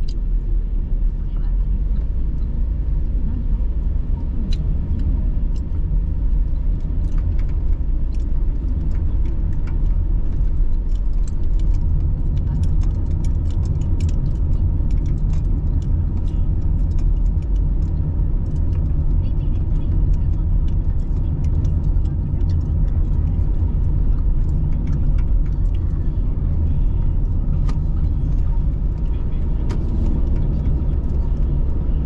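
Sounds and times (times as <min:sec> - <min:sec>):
car engine and tyre rumble: 0:00.0 - 0:32.0
light ticks and rattles: 0:01.6 - 0:32.0.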